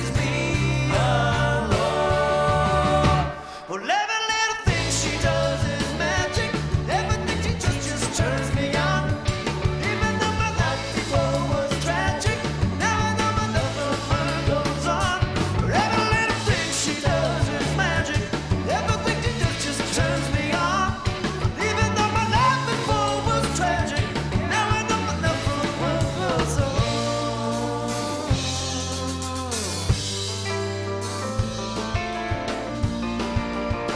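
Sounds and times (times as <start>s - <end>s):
live rock band: 0.0s - 3.7s, 4.5s - 33.9s
man singing lead vocal: 0.0s - 30.2s.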